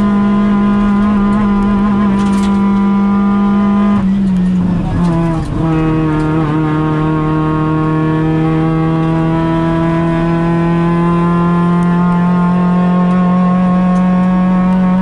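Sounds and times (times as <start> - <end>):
rally car engine revving high: 0.0 - 15.0.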